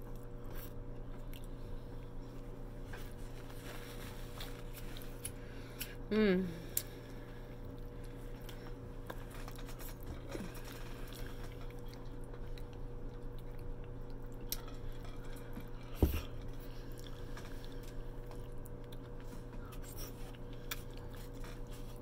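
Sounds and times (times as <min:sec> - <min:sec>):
close-up chewing: 0:00.0 - 0:06.0, 0:06.7 - 0:22.0
steady low hum: 0:00.0 - 0:22.0.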